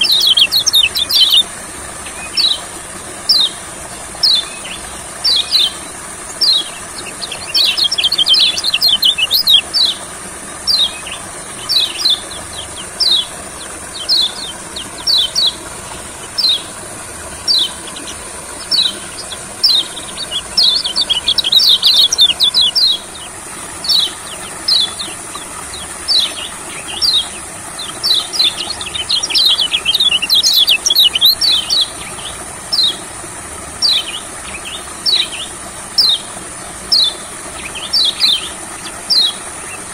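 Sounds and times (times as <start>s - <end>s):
bird chirping: 0.0s - 2.6s, 4.2s - 33.0s, 33.8s - 36.2s, 36.9s - 39.8s
rapid chattering bird song: 0.0s - 39.9s.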